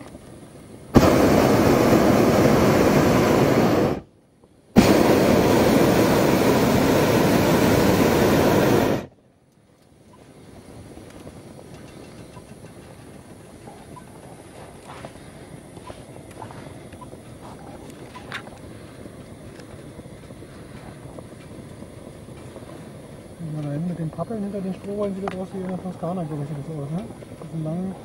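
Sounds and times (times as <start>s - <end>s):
propane burner firing: 0.0s - 28.0s.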